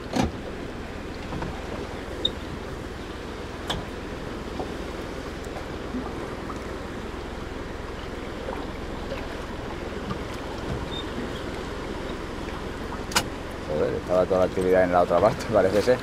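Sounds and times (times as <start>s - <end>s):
sea noise: 0.0s - 16.0s
wind: 0.0s - 16.0s.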